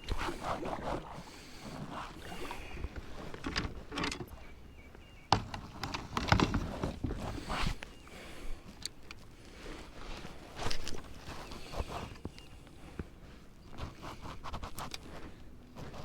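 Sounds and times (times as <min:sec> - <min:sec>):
water sloshing around kayak: 0:00.0 - 0:16.0.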